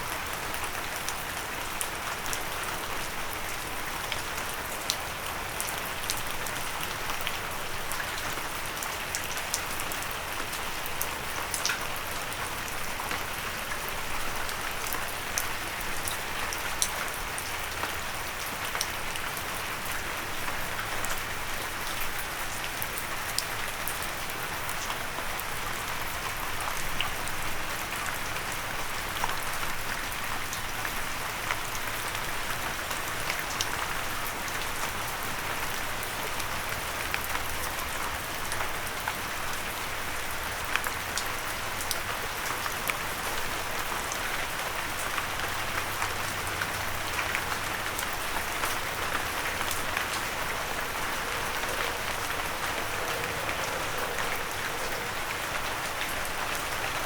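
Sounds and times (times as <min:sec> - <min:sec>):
rain pattering on windowsill: 0:00.1 - 0:57.0.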